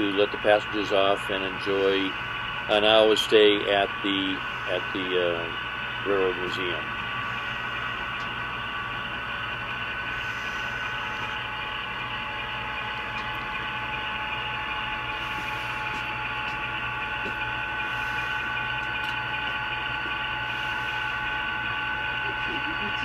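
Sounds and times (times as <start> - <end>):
mechanical hum with whine: 0.0 - 23.0
model train running on track: 0.0 - 23.0.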